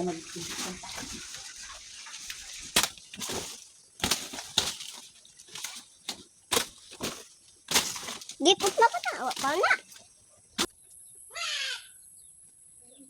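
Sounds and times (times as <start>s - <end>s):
branches cracking and snapping: 0.0s - 10.7s
leafy rustling: 0.0s - 10.7s.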